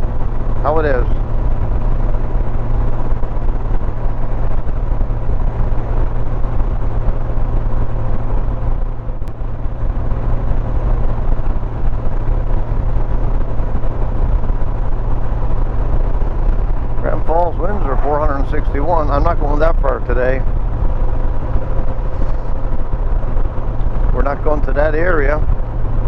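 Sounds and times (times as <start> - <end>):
motorcycle engine drone: 0.0 - 26.0
wind rush: 0.0 - 26.0.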